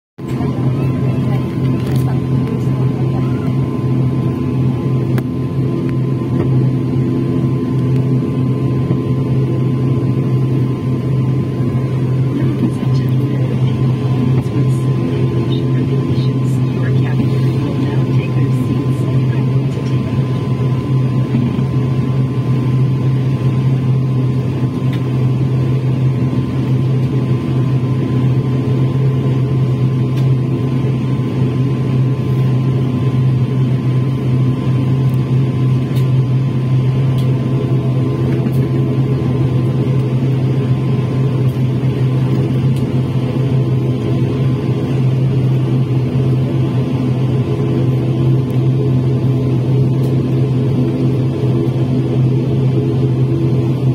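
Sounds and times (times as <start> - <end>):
propeller aircraft engines droning: 0.2 - 53.9.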